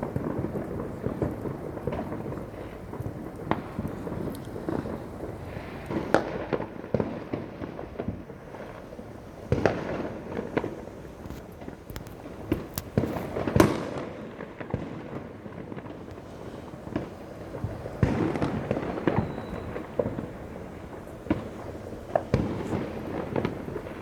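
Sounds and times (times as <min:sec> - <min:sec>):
distant fireworks rumble and crackle: 0:00.0 - 0:24.0
sharp firework bangs: 0:00.0 - 0:24.0.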